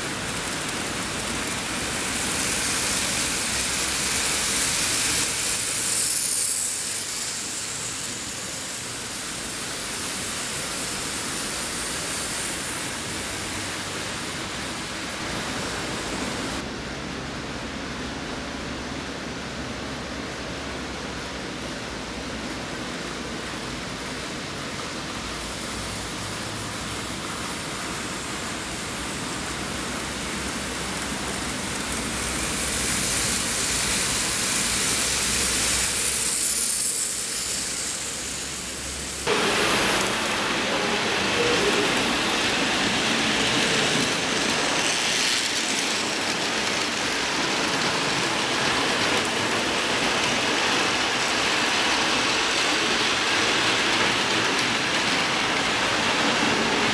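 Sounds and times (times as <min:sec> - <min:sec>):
model trains rattling on track: 0:00.0 - 0:16.8, 0:19.6 - 0:56.9.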